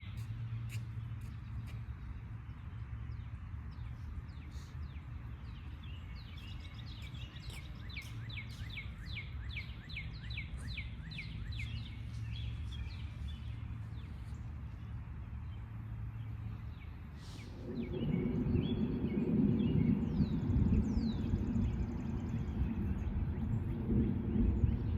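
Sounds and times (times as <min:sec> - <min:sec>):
steady low rumble: 0:00.0 - 0:24.9.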